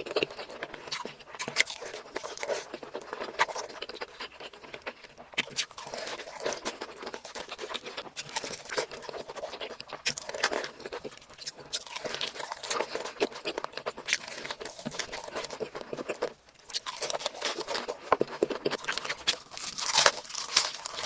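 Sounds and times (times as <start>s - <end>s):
person chewing with wet mouth sounds: 0.0s - 21.0s.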